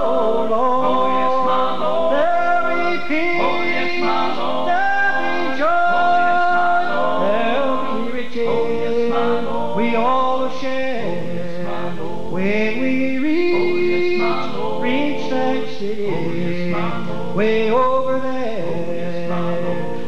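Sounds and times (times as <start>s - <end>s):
male vocal group singing in harmony: 0.0s - 20.0s.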